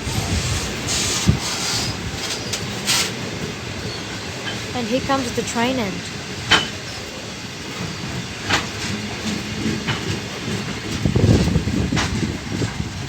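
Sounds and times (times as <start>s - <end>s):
freight train rolling: 0.0s - 13.0s
train wheels clicking over rail joints: 0.0s - 13.0s.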